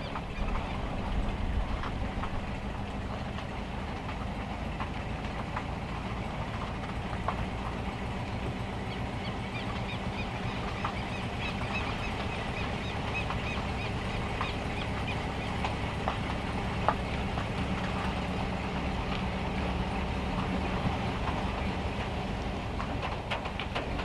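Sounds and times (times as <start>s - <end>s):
heavy rain on metal roof: 0.0s - 24.0s
sharp raindrop ticks: 0.0s - 24.0s.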